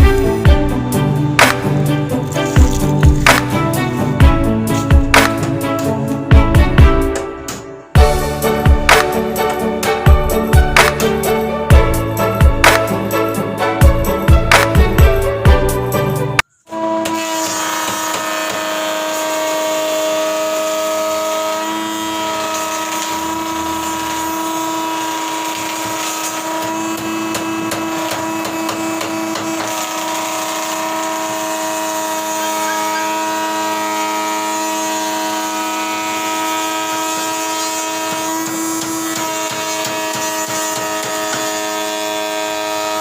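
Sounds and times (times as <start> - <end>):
electric planer whining: 0.0 - 43.0.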